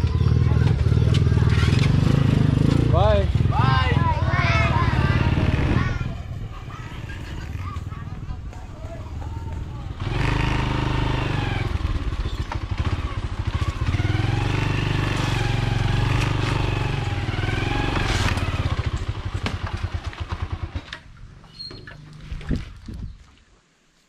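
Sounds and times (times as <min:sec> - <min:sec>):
motorcycle engine revving: 0:00.0 - 0:22.4.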